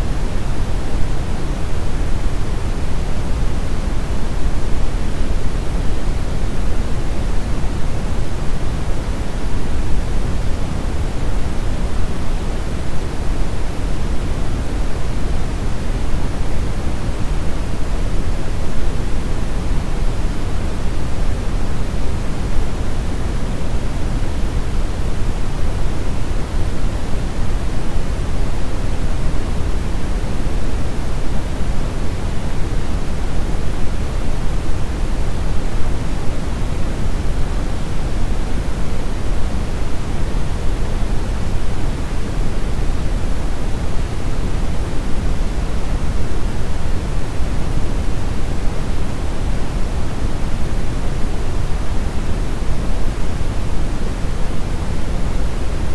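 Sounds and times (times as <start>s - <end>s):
brown noise hiss: 0.0s - 55.9s.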